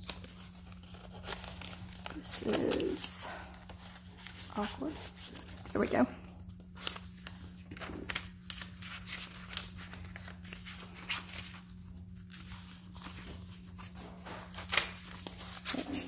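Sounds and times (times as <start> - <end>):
paper pages rustling: 0.0 - 16.0.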